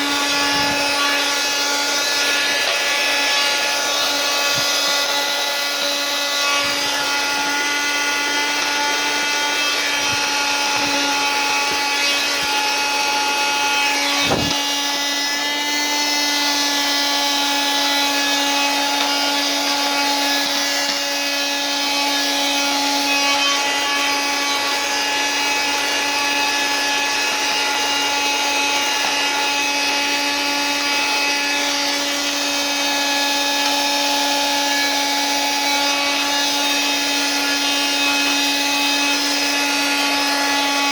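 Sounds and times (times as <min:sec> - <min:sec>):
handheld vacuum cleaner running: 0:00.0 - 0:40.9.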